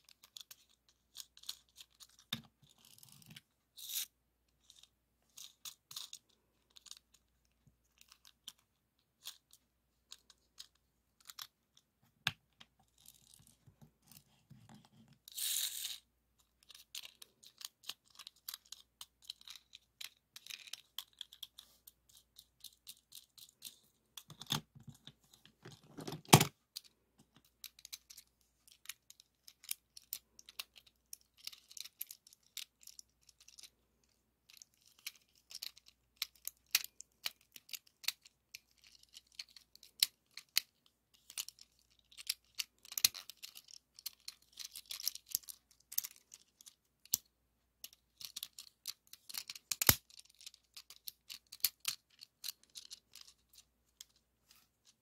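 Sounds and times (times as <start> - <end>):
plastic toy parts clicking: 0.0 - 13.6, 15.2 - 55.0.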